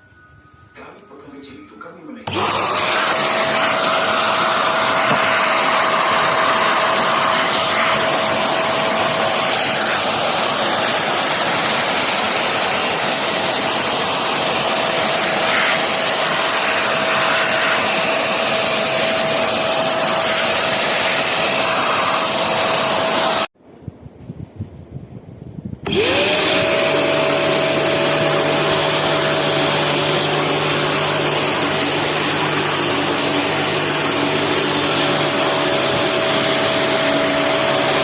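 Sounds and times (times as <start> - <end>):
vacuum cleaner motor whining: 2.2 - 23.6, 25.8 - 38.0.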